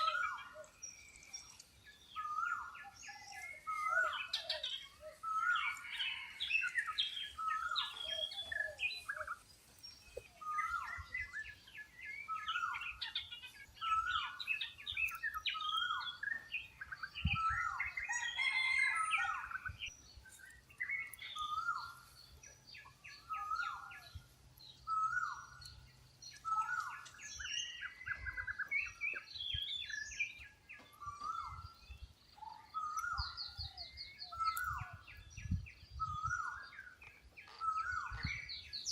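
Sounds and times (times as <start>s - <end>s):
high bird chirps and trills: 0.0s - 38.9s.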